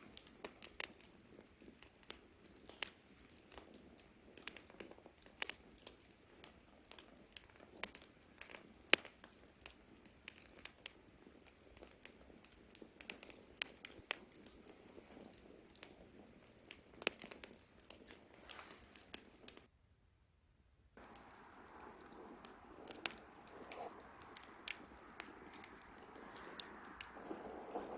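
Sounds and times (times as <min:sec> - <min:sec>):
campfire crackling and popping: 0:00.0 - 0:19.7, 0:21.0 - 0:27.9.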